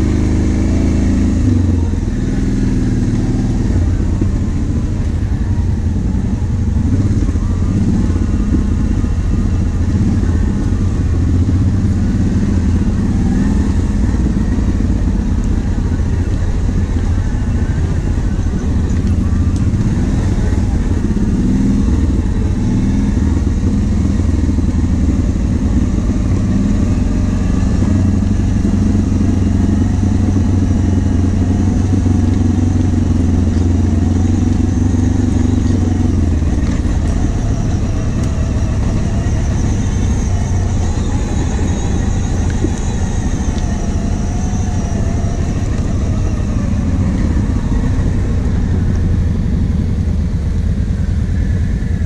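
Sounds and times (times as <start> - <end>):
quad bike engine running: 0.0 - 52.0.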